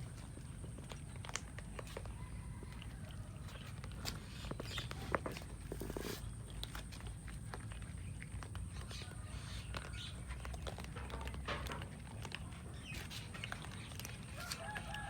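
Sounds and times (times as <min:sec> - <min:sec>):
cats chewing food: 0:00.0 - 0:15.0.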